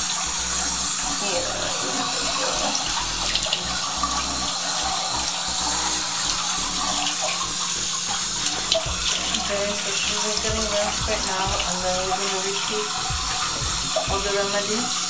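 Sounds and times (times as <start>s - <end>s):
tap running into bathtub: 0.0s - 15.0s.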